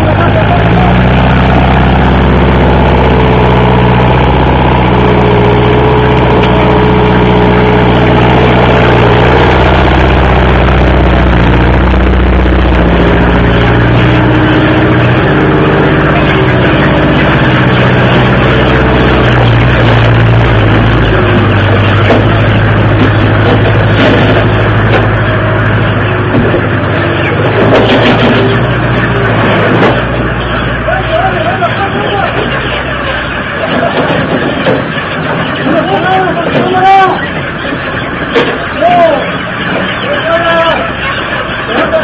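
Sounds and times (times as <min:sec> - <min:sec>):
dense noisy din: 0:00.0 - 0:42.0
loud machinery hum: 0:00.0 - 0:42.0.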